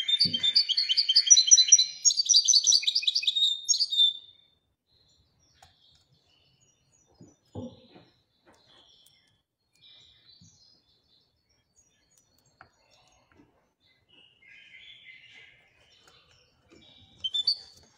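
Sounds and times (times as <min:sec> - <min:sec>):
goldfinch singing: 0:00.0 - 0:13.3, 0:13.9 - 0:17.9.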